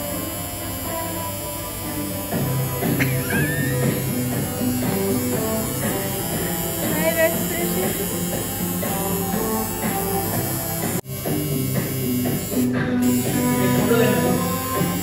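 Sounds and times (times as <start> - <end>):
background music with melody: 0.0 - 15.0
tattoo machine humming: 0.0 - 15.0.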